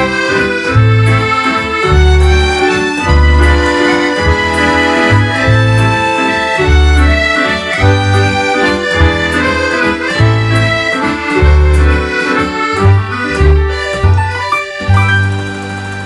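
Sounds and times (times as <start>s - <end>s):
accordion melody: 0.0s - 16.0s
dance band playing a waltz: 0.0s - 16.0s.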